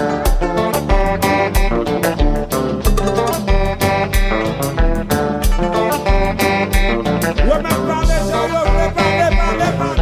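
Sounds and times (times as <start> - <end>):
guitar and keyboard chords: 0.0 - 10.0
drum and bass beat: 0.4 - 10.0.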